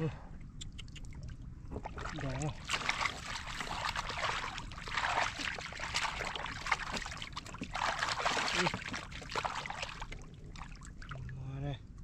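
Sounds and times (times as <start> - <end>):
muddy water splashing: 0.7 - 11.4.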